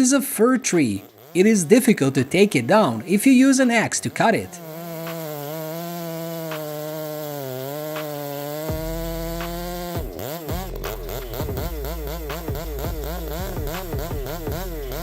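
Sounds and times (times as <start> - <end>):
chainsaw running at high speed: 0.0 - 15.0.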